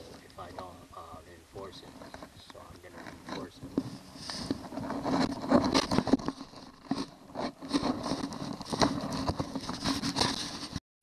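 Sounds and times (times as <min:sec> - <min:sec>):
handling rustling and scraping: 0:01.6 - 0:10.8.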